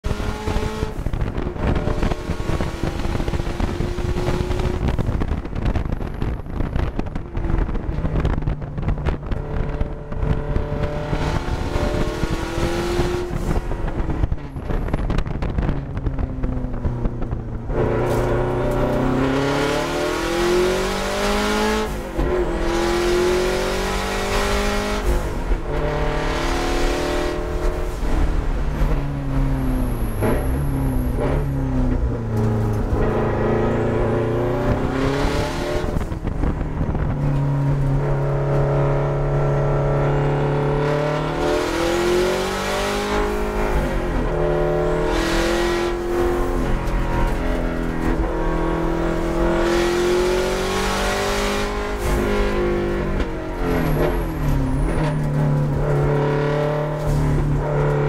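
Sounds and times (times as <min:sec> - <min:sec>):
car engine revving on track: 0:00.0 - 0:58.0
road noise: 0:00.0 - 0:58.0.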